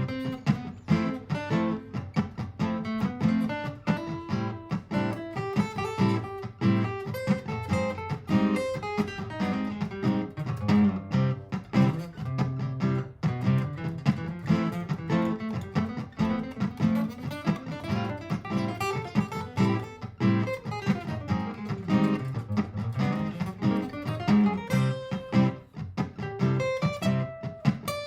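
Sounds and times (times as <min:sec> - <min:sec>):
improvised guitar line: 0:00.0 - 0:28.0
looped acoustic guitar: 0:00.0 - 0:28.0.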